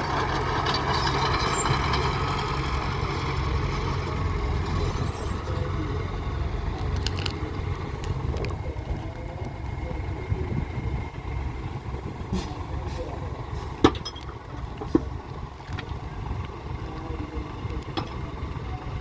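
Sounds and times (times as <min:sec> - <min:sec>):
heavy machinery engine running: 0:00.0 - 0:19.0.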